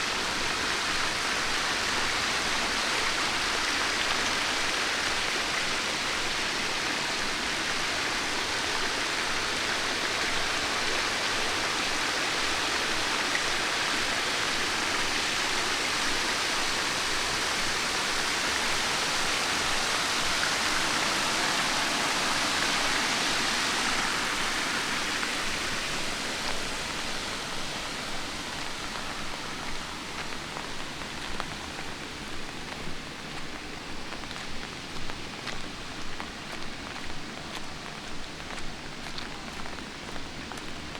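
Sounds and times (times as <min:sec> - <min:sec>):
footsteps on wet pavement: 0:00.0 - 0:40.9
light rain hissing: 0:00.0 - 0:40.9
running water: 0:00.0 - 0:40.9.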